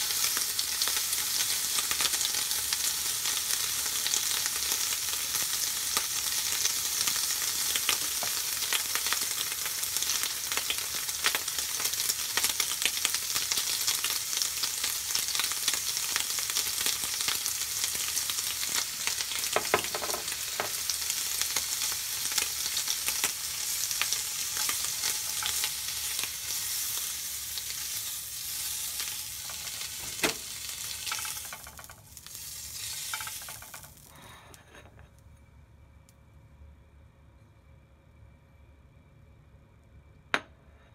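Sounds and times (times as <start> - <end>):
bacon sizzling in a frying pan: 0.0 - 34.1.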